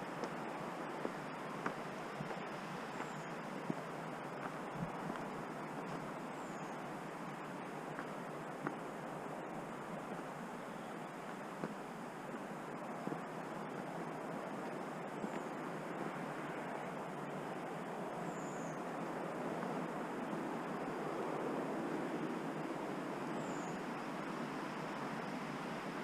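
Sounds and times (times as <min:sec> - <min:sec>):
flowing water rushing: 0:00.0 - 0:26.0.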